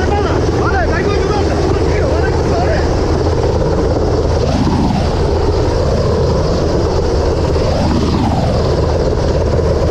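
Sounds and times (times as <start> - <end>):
helicopter rotor and turbine: 0.0 - 9.9.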